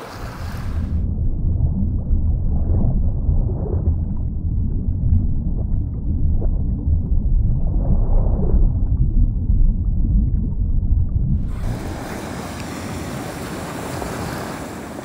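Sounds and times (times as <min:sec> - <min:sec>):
underwater rumble and gurgle: 0:00.0 - 0:14.9.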